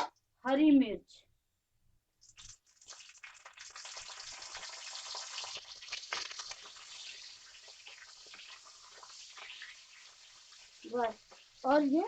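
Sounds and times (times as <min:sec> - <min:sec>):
chillies sizzling in hot oil: 0:02.2 - 0:12.0.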